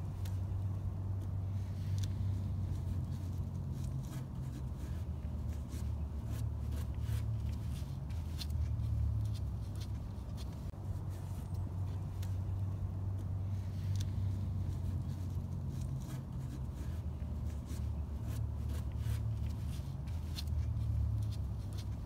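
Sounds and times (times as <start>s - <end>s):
gloved hands clicking and rustling: 0.0s - 22.0s.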